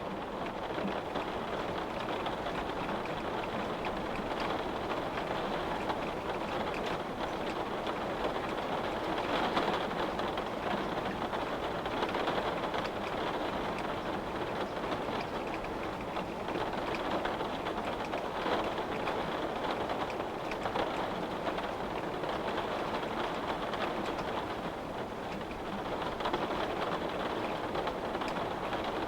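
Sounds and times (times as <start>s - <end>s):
rain pattering on window: 0.0s - 29.0s.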